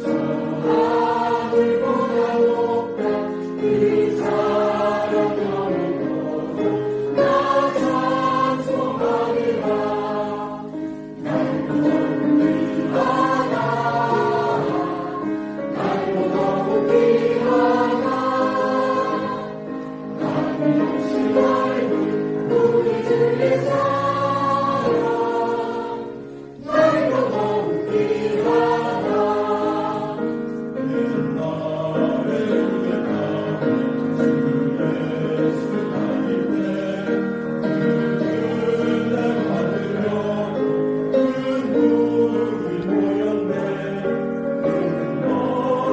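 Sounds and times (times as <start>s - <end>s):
church choir singing: 0.0s - 45.9s.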